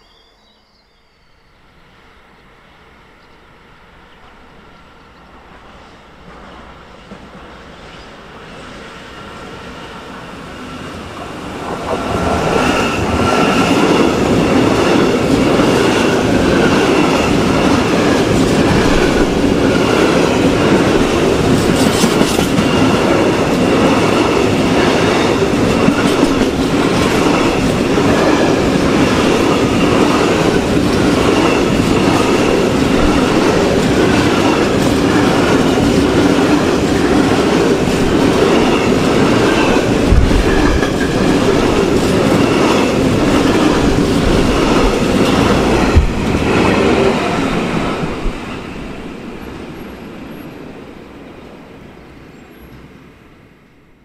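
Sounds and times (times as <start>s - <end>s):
freight train rolling past: 0.0s - 53.8s.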